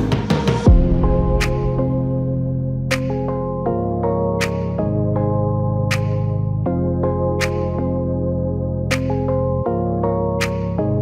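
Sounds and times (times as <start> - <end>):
soft synthesizer music with bass: 0.0 - 11.0.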